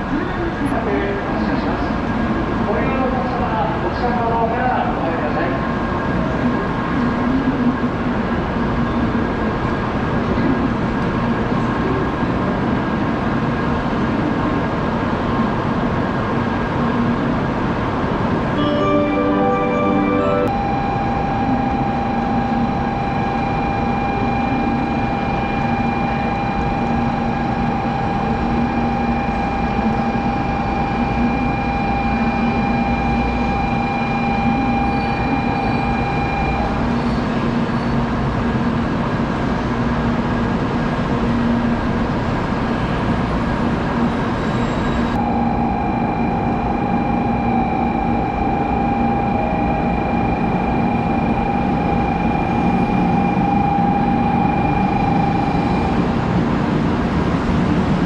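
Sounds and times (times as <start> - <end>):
train rolling in: 0.0 - 58.0.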